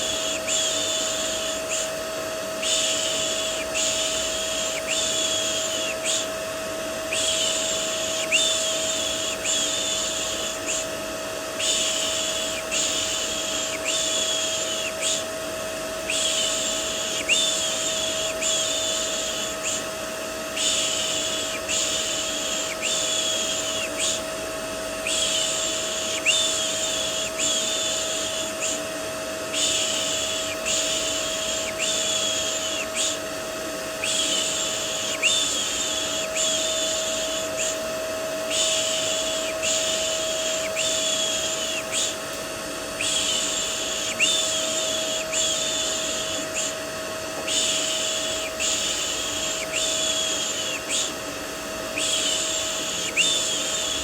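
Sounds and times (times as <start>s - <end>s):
vacuum cleaner whining: 0.0s - 54.0s.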